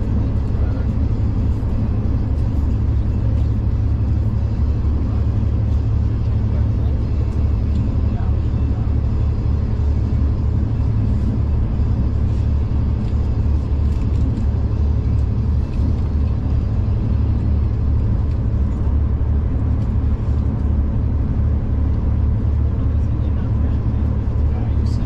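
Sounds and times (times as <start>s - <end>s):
moving train rumble: 0.0s - 25.0s.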